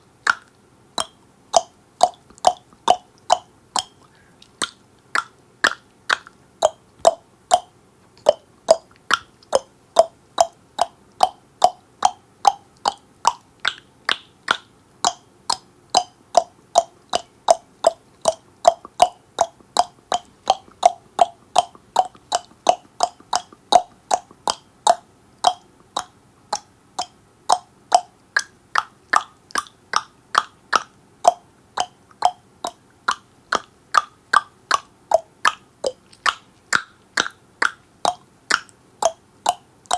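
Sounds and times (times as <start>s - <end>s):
tongue clicking: 0.2s - 39.9s.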